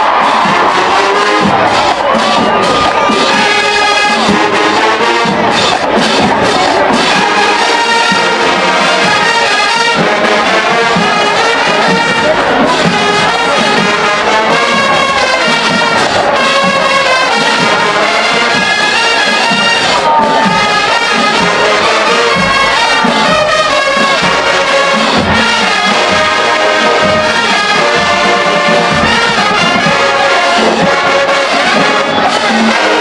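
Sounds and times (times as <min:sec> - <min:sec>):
marching band brass playing: 0:00.0 - 0:33.0.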